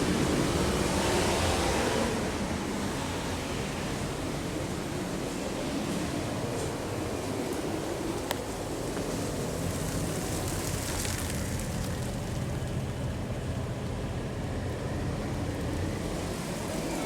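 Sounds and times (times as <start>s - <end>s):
duct-cleaning equipment rumbling: 3.3s - 17.0s.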